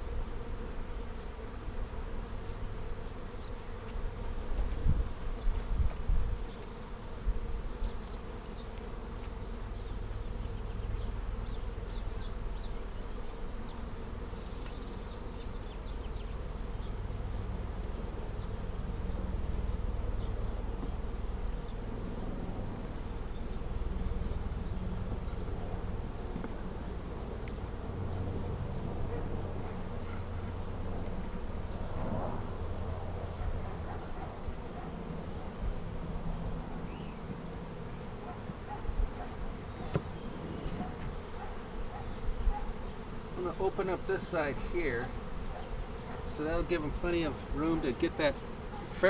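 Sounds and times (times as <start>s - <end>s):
bee swarm humming: 0.0s - 49.0s.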